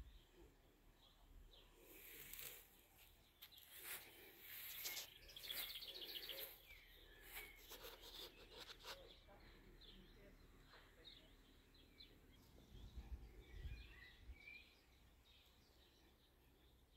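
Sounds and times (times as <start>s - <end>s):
birds chirping and trilling: 0.0s - 16.9s
low background noise: 0.0s - 16.9s.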